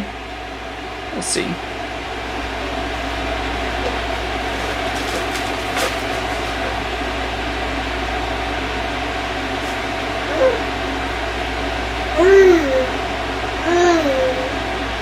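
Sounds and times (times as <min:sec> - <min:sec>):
appliance motor and fan hum: 0:00.0 - 0:15.0.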